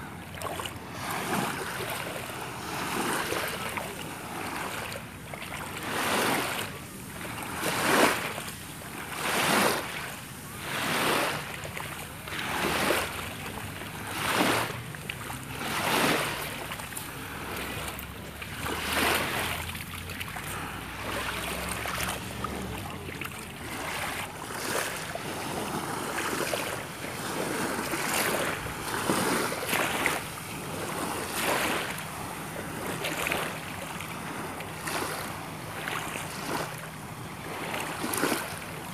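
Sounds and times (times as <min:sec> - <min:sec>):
small waves washing in: 0:00.0 - 0:38.9.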